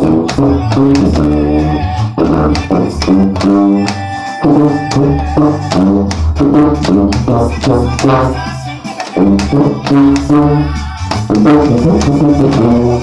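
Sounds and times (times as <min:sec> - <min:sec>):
recorded banda song: 0:00.0 - 0:13.0
sousaphone bass line: 0:00.0 - 0:13.0.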